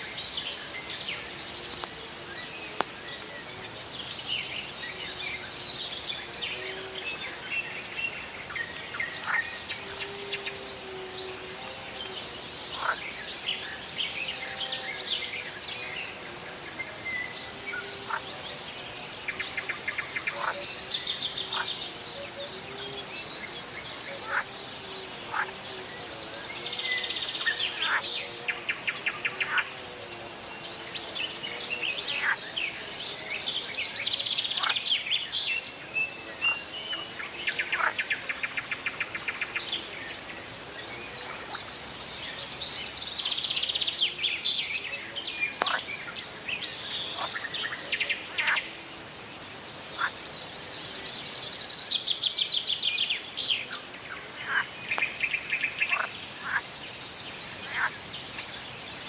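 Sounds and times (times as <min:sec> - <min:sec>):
birds singing and calling: 0:00.0 - 0:59.0.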